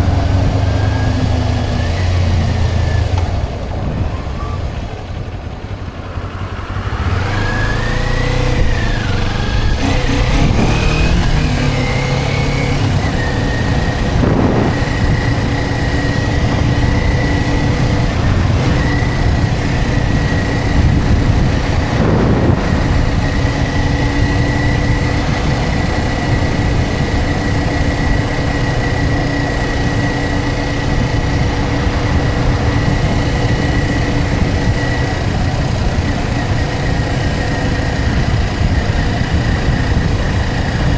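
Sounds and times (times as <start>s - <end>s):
heavy wind noise: 0.0s - 40.9s
motorcycle engine accelerating: 0.0s - 40.9s.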